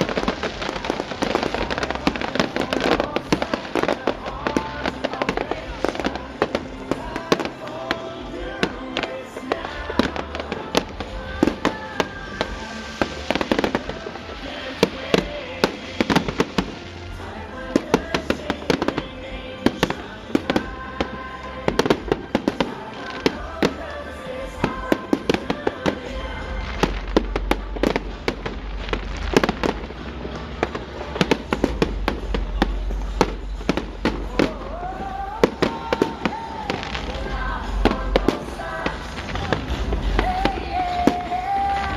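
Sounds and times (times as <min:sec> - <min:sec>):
fireworks bangs and crackles: 0:00.0 - 0:41.9
music playing: 0:00.0 - 0:41.9.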